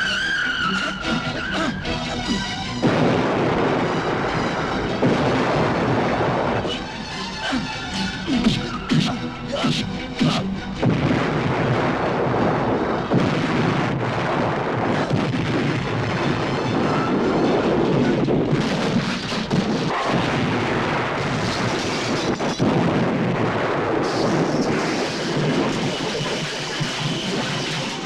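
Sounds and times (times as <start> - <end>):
gunfire and blasts: 1.9 - 28.0.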